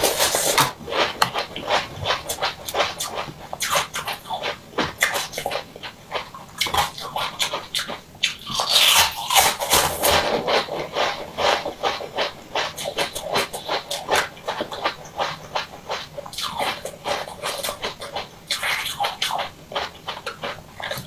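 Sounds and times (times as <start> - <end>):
wet chewing and slurping: 0.0 - 21.0.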